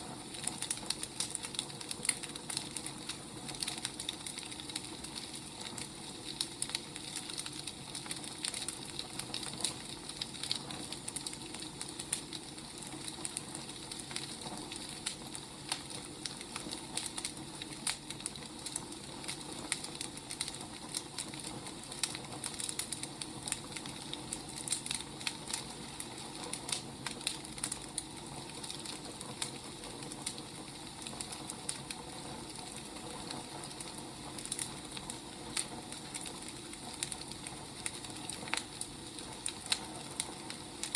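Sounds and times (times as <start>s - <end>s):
firewood crackling and popping: 0.0s - 40.9s
soft fire hiss: 0.0s - 40.9s.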